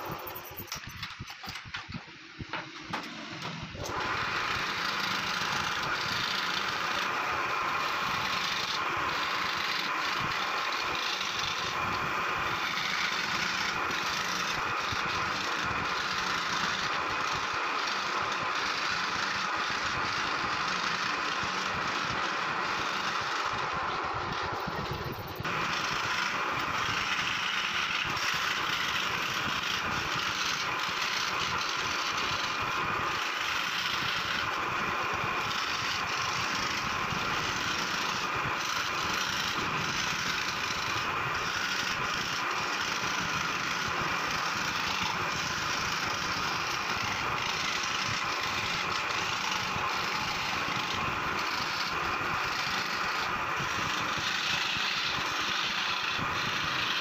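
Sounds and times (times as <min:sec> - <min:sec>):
scroll saw cutting wood: 0:00.0 - 0:57.0.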